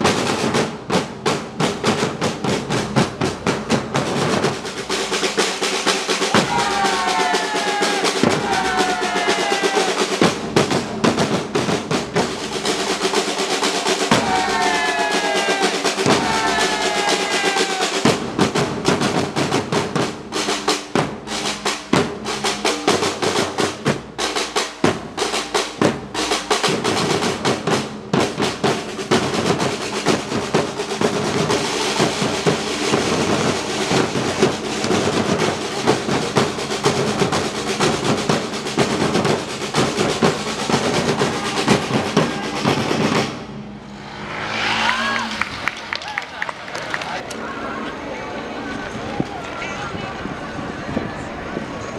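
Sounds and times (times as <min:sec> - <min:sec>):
samba percussion band drumming: 0:00.0 - 0:43.6.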